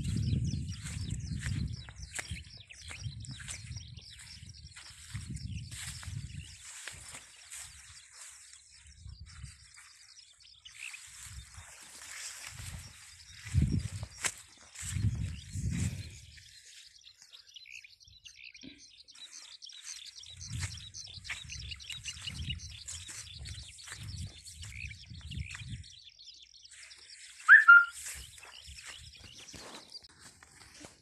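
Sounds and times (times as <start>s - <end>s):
footsteps on sand: 0.0s - 10.1s, 10.8s - 16.1s, 19.2s - 25.7s, 26.7s - 31.0s
small birds chirping: 0.0s - 31.0s.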